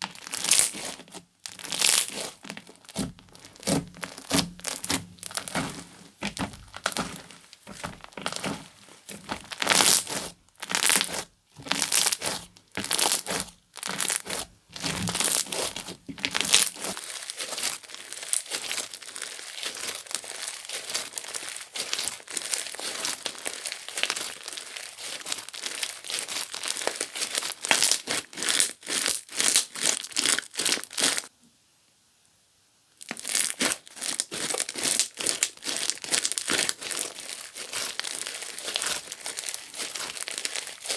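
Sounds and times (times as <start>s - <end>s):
slime squishing: 0.0s - 31.3s, 33.0s - 40.9s.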